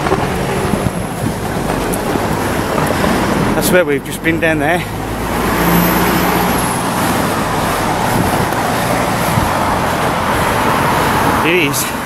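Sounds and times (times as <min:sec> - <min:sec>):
cars passing: 0:00.0 - 0:12.0
engine hum: 0:00.0 - 0:12.0.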